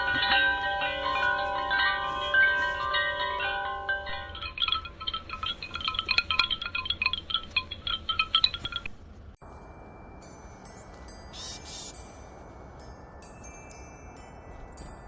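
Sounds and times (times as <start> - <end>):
tinkling bell-like chime: 0.0 - 15.0.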